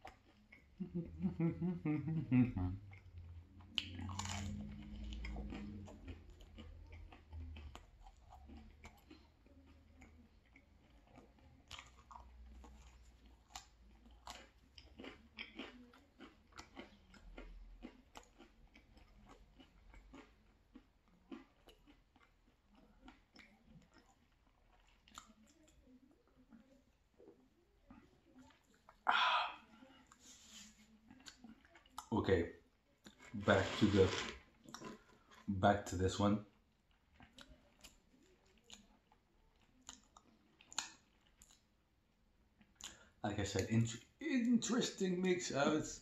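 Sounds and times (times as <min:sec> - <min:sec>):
chewing crunchy pizza: 0:00.0 - 0:46.0.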